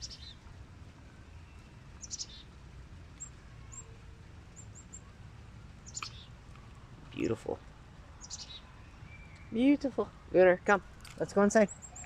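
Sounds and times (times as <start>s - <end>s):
birds chirping faintly: 0.0s - 0.5s, 1.1s - 12.0s
faint low background noise: 0.0s - 12.0s.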